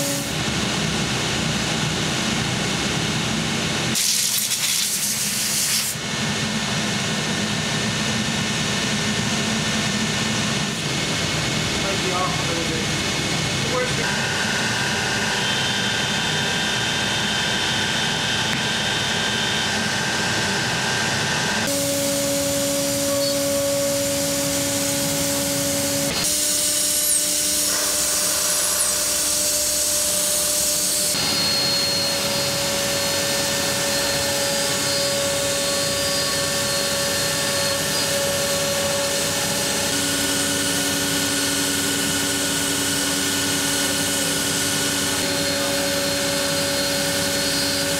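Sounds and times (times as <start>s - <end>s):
router spindle whine: 6.1s - 47.9s.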